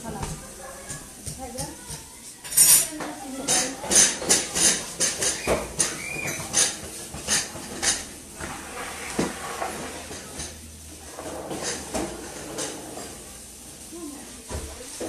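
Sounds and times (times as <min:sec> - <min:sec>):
dishes and cutlery clinking: 0:00.0 - 0:13.4.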